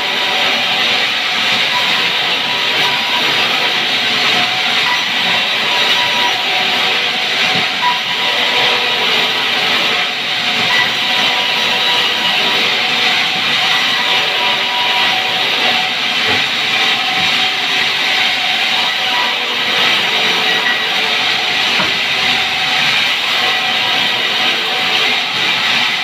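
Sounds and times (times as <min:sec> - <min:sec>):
band saw cutting log: 0:00.0 - 0:26.0.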